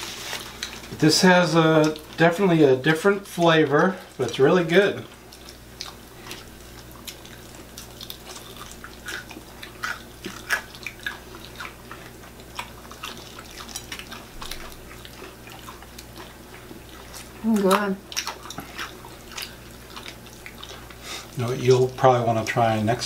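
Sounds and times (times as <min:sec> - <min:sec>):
biting and chewing crunchy food: 0:00.0 - 0:23.0.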